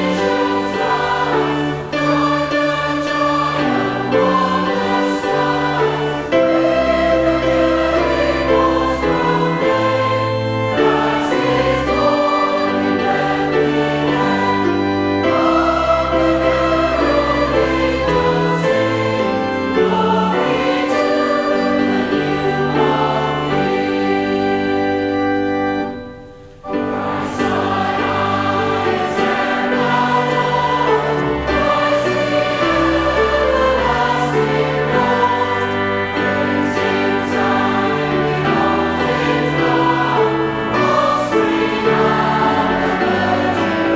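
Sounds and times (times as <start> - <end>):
choir singing: 0.0 - 43.9
instrumental accompaniment: 0.0 - 43.9.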